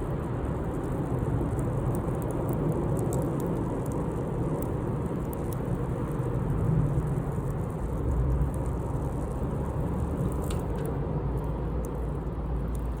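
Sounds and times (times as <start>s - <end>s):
campfire crackles: 0.0s - 13.0s
steady low rumble: 0.0s - 13.0s.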